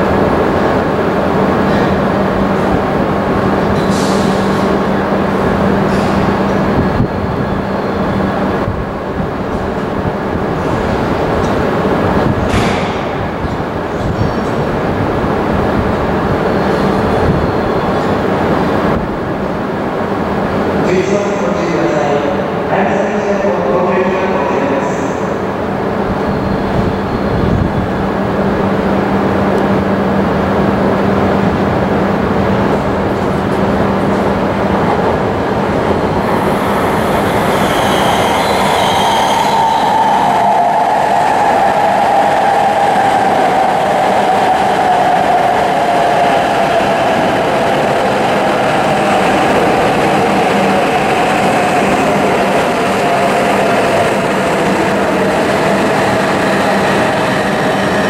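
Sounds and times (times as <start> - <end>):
train rushing along platform: 0.0 - 58.0.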